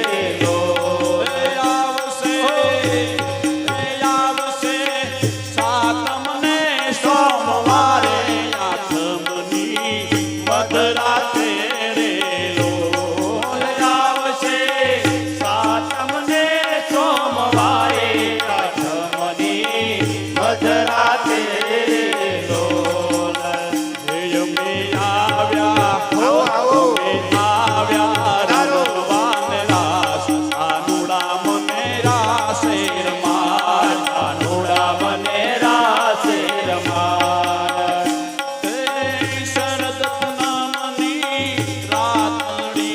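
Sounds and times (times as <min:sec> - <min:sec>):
devotional music with ornamented melody: 0:00.0 - 0:42.9.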